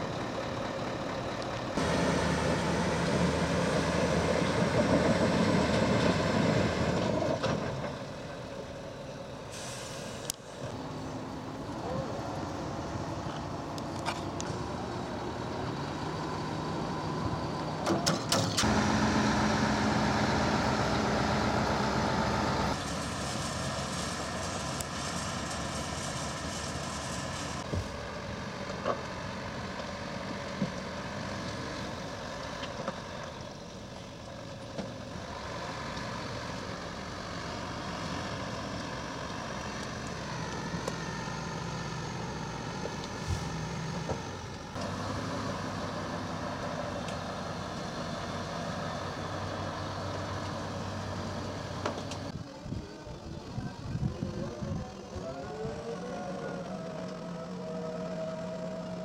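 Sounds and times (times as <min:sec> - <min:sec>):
heavy diesel crane engine running: 0:00.0 - 0:59.0.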